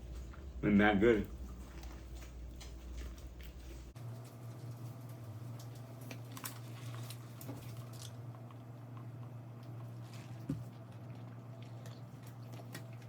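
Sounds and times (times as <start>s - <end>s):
steady low hum: 0.0s - 13.0s
chewing crispy fried chicken: 1.4s - 13.0s.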